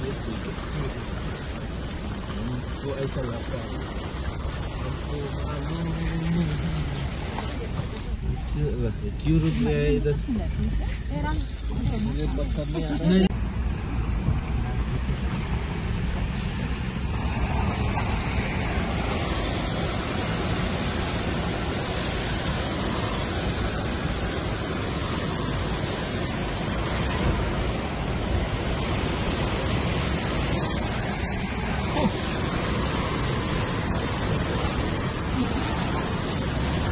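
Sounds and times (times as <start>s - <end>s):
car driving on rocky road: 0.0s - 36.9s
flood river rushing: 0.0s - 36.9s.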